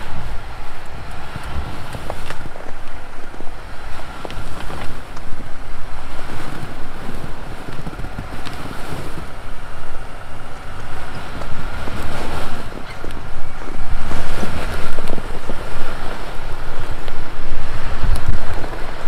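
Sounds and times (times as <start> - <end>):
vehicle driving over snow: 0.0 - 19.0
wind buffeting microphone: 0.0 - 19.0.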